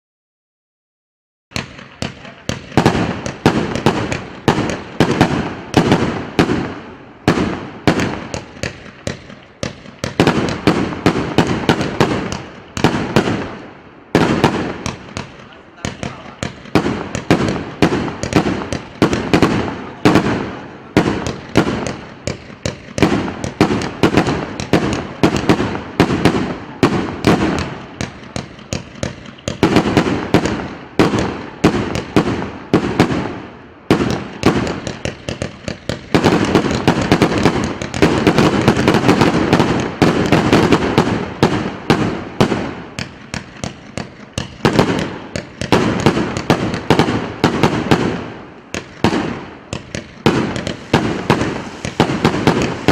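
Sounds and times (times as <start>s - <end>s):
firework cake firing reports: 1.5s - 52.9s.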